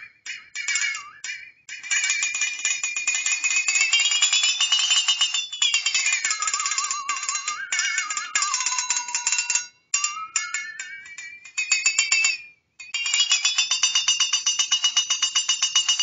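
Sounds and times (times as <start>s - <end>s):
flexatone wobbling metallic tone: 0.0s - 16.0s.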